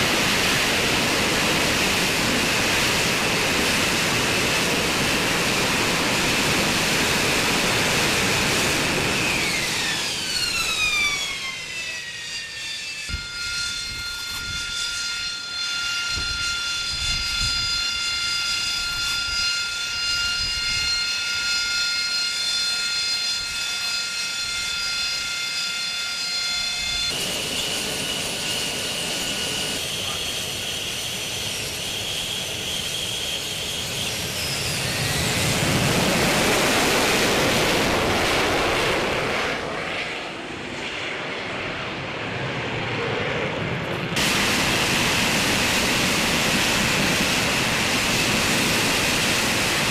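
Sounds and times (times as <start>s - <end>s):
jet engine high whine: 0.0s - 49.9s
jet roar: 0.0s - 49.9s.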